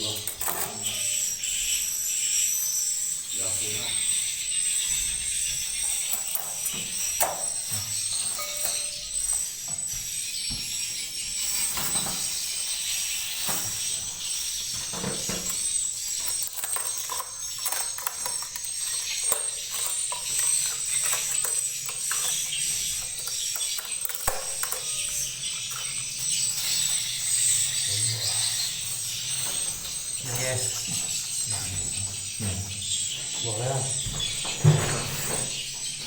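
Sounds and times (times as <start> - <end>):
swiftlets chirping and twittering: 0.0 - 36.0.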